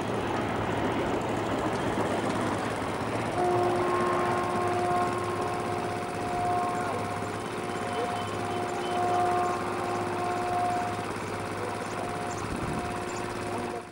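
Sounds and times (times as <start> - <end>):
steady humming tone: 0.0 - 13.9
train wheels rumbling on rails: 0.0 - 13.9.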